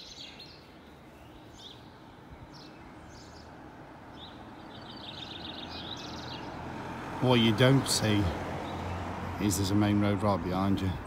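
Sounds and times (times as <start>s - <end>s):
road traffic rumble: 0.0s - 11.0s
small birds chirping: 0.0s - 11.0s.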